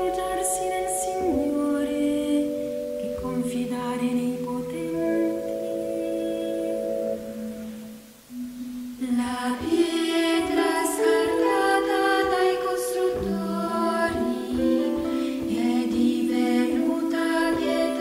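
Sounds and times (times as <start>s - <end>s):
slow song sung by voices: 0.0s - 18.0s.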